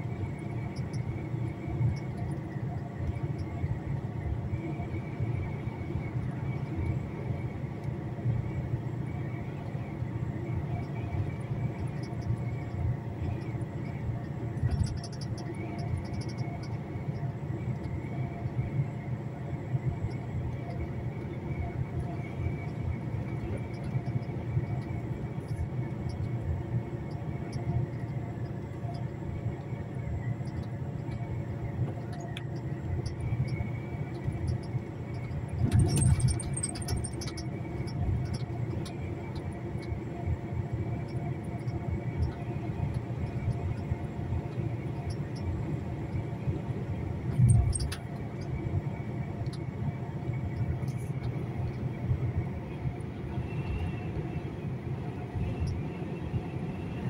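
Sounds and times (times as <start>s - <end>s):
truck engine and road drone: 0.0s - 57.0s.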